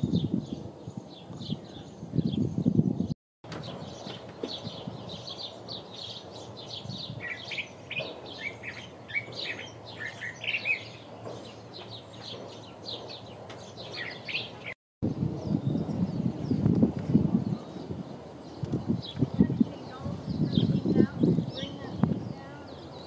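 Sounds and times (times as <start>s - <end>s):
bird singing varied phrases: 0.0s - 14.8s, 17.4s - 23.0s.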